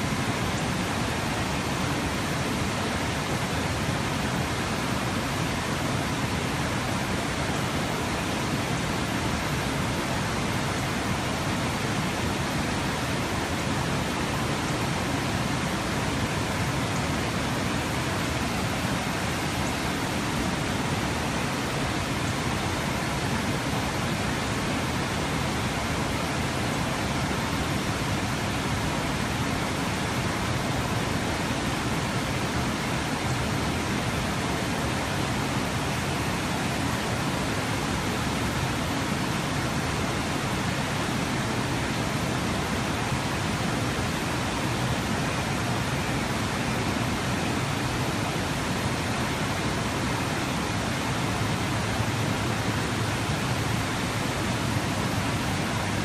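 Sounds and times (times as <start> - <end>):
river water pouring over weir: 0.0 - 56.0.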